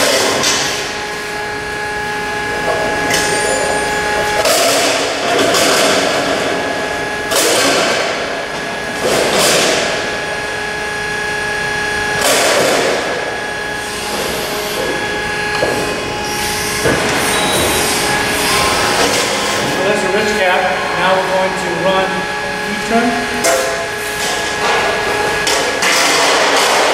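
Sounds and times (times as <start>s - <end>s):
steady machine hum: 0.0s - 26.9s.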